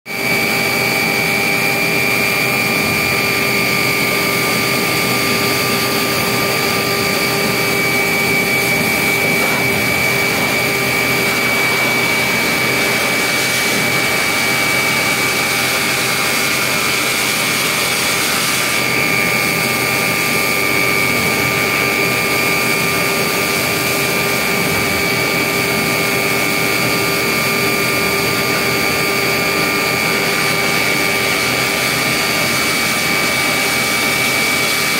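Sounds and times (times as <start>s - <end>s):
loud hiss with high whistle: 0.2s - 34.9s.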